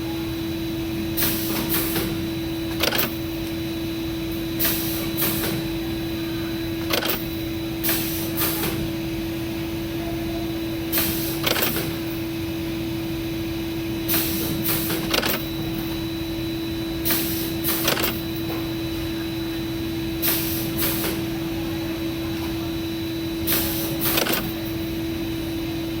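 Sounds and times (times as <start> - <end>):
factory machinery hum: 0.0 - 26.0.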